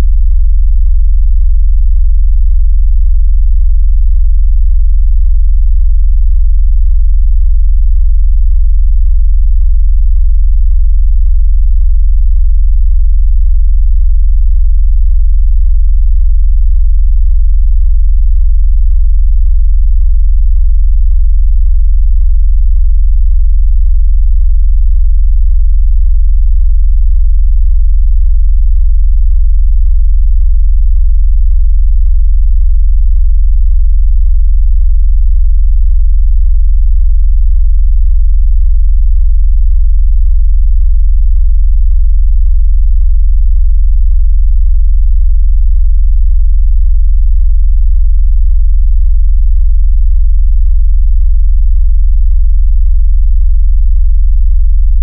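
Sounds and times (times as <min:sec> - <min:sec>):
deep pulsing bass tone: 0:00.0 - 0:46.7, 0:51.0 - 0:51.6, 0:54.8 - 0:55.0.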